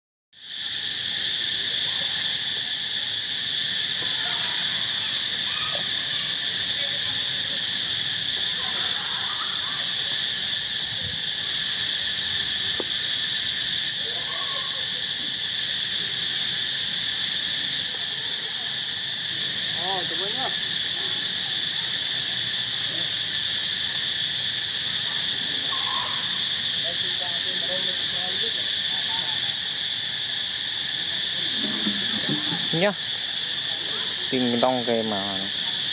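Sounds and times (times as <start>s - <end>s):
high-pitched insect drone: 0.4s - 35.9s.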